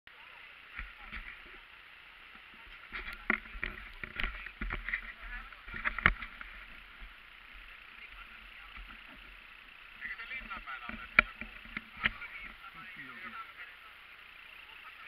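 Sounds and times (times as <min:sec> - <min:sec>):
steady hiss: 0:00.1 - 0:15.0.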